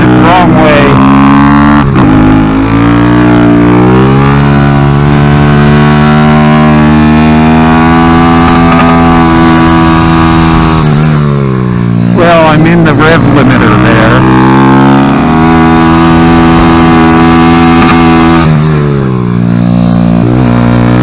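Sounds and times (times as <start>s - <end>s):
motorcycle engine at full throttle: 0.0s - 21.0s.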